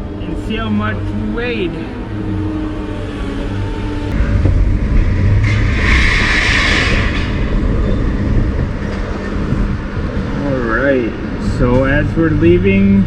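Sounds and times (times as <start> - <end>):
pickup truck engine and road rumble: 0.0 - 13.0.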